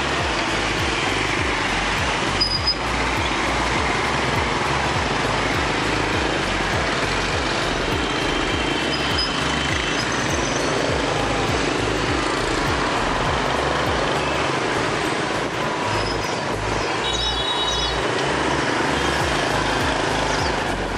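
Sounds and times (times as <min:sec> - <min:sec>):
motorbike engines humming: 0:00.0 - 0:20.9
road noise: 0:00.0 - 0:20.9.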